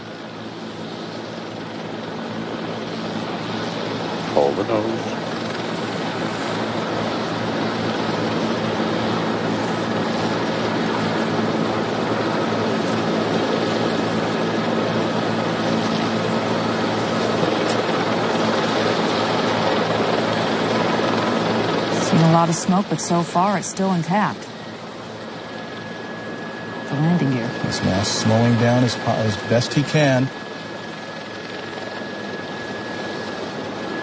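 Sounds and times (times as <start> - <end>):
helicopter engine and rotor noise: 0.0 - 34.0.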